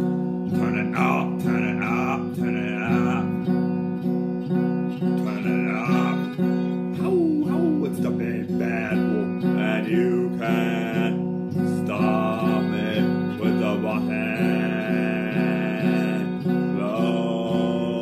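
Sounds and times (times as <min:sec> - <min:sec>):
man singing long notes: 0:00.0 - 0:04.0, 0:04.9 - 0:18.0
electric guitar strumming chords: 0:00.0 - 0:18.0.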